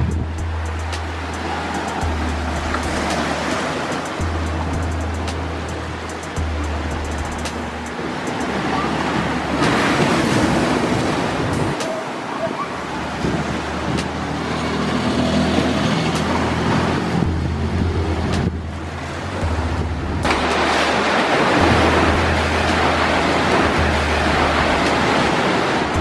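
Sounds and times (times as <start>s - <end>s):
strong wind: 0.0s - 26.0s
waves surging and crashing: 0.0s - 26.0s
wind buffeting microphone: 0.0s - 26.0s.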